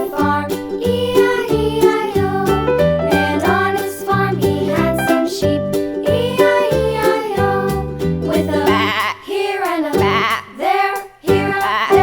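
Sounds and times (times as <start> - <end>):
upbeat children's song: 0.0 - 12.0.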